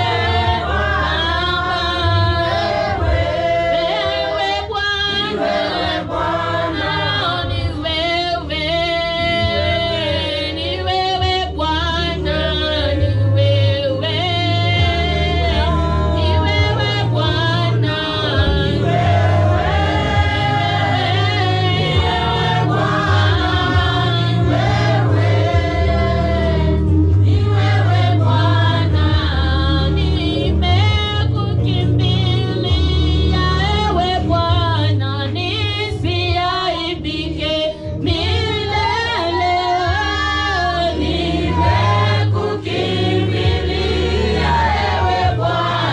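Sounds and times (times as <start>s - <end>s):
choir singing gospel: 0.0s - 45.9s
deep bass notes: 0.0s - 45.9s
instrumental backing: 0.0s - 45.9s.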